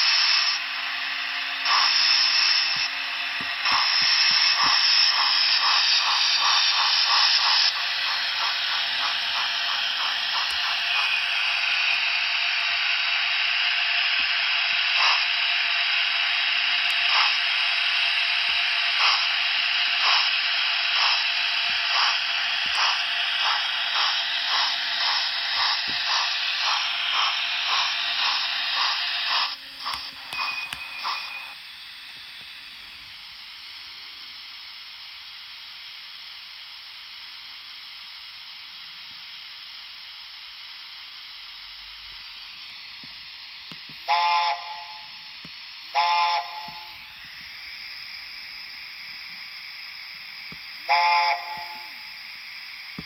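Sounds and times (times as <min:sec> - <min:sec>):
model steam locomotive chuffing: 0:00.0 - 0:53.0
steam hiss: 0:00.0 - 0:53.0.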